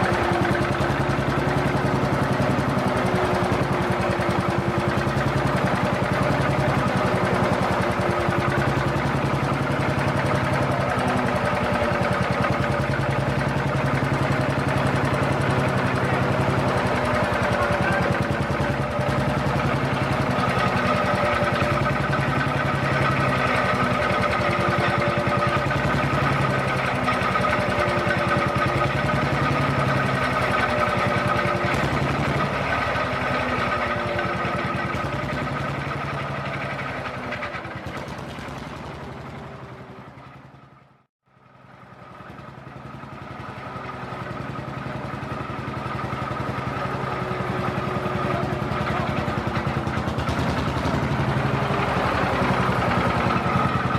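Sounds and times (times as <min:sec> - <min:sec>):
old tractor engine running: 0:00.0 - 0:53.9.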